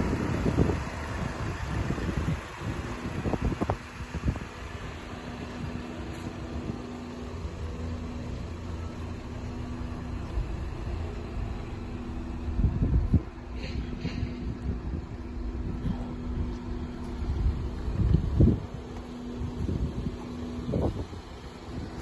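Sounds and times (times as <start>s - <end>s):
wind buffeting microphone: 0.0s - 8.1s, 9.8s - 22.0s
car engine idling: 0.0s - 22.0s.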